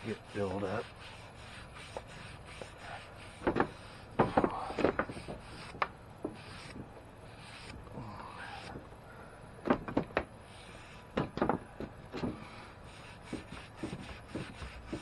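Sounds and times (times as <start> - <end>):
brush scrubbing charred wood: 0.0 - 8.8, 10.4 - 15.0.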